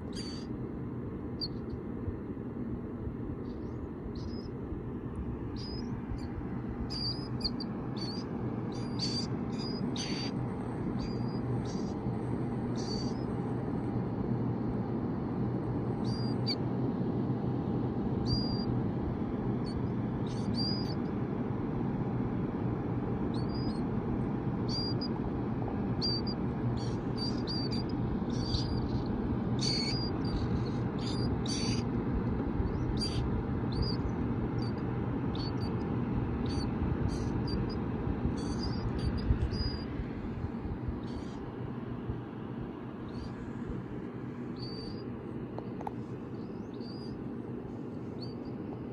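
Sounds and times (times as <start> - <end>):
space heater fan hum: 0.0 - 48.9.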